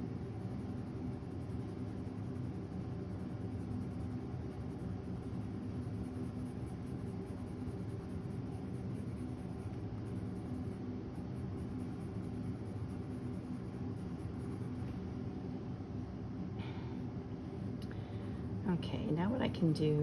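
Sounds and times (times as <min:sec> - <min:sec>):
faint constant tones: 0:00.0 - 0:20.0
low background hum: 0:00.0 - 0:20.0.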